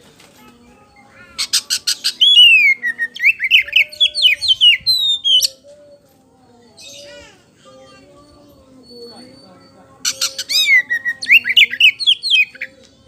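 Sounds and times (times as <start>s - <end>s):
bird singing: 0.4s - 13.0s.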